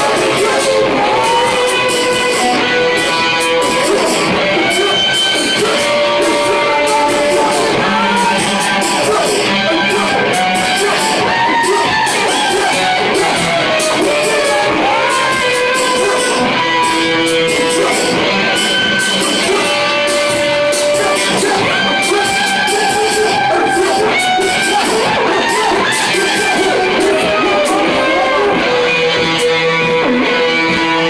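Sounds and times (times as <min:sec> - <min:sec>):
electric guitar strummed: 0:00.0 - 0:31.0
live band playing: 0:00.0 - 0:31.0.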